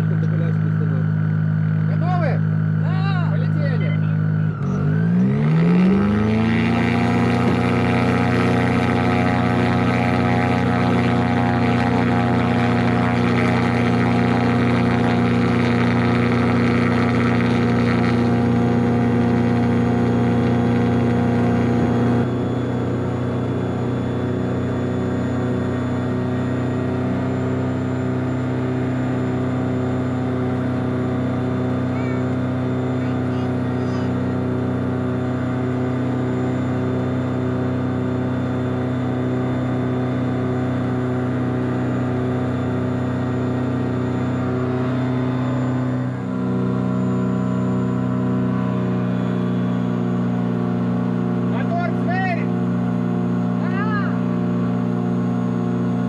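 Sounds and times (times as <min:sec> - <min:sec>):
glider engine and propeller: 0:00.0 - 0:56.0.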